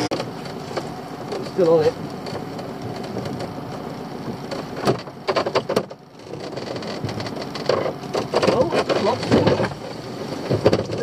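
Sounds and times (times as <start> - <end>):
wet rope rubbing over boat side: 0.0 - 11.0.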